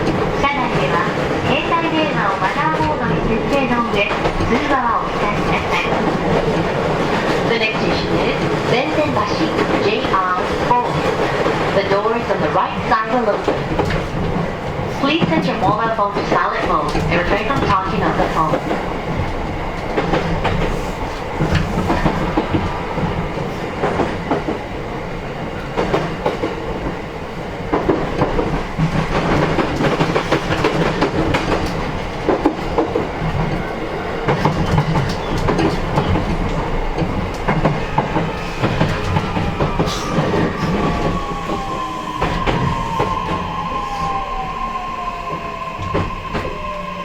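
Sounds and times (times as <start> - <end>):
train running rumble: 0.0 - 46.8.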